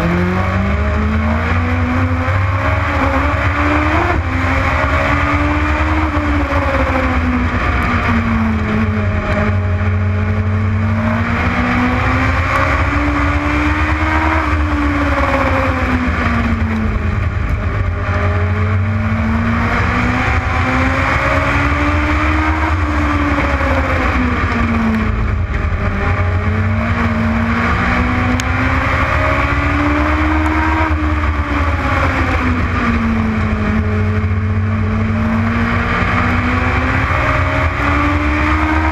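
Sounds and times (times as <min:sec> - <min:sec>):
race car engine at speed: 0:00.0 - 0:38.9.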